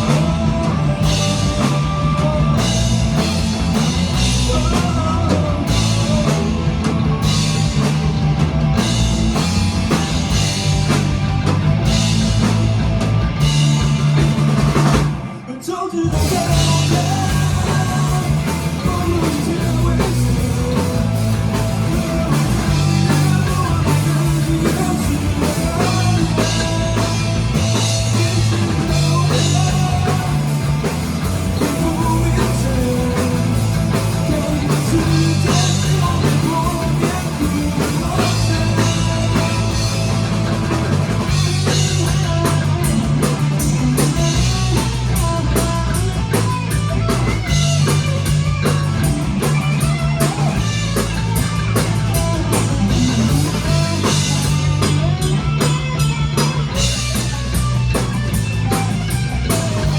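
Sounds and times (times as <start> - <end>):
drum kit: 0.0 - 59.9
live rock band playing: 0.0 - 59.9.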